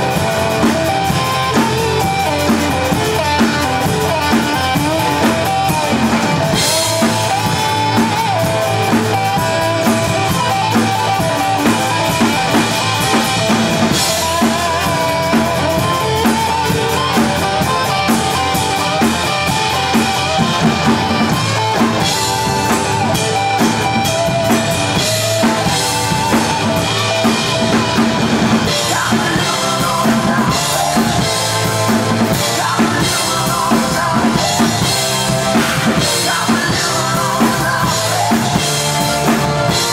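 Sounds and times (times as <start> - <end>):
drum kit playing: 0.0 - 39.9
hard rock music: 0.0 - 39.9.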